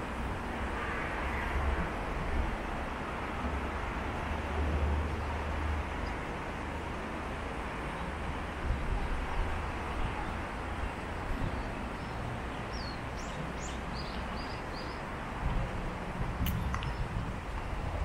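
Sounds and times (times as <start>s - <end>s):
rushing background noise: 0.0s - 18.0s.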